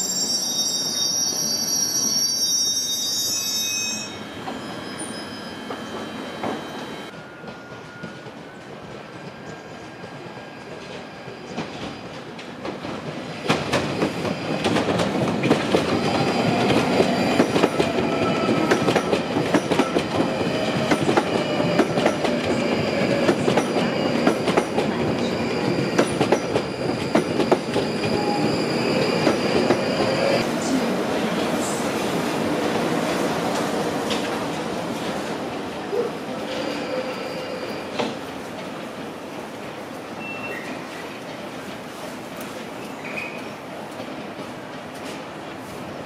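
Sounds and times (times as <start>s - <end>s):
train passing: 0.0s - 46.0s.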